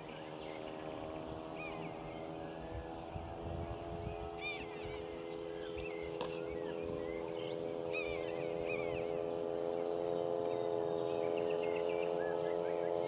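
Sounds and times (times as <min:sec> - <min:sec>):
birds chirping: 0:00.0 - 0:13.0
steady droning hum: 0:00.0 - 0:13.0.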